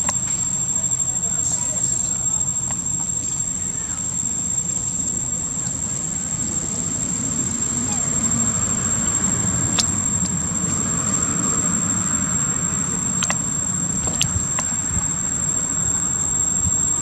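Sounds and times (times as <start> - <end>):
high-pitched insect drone: 0.0 - 17.0
low rumble: 2.0 - 17.0.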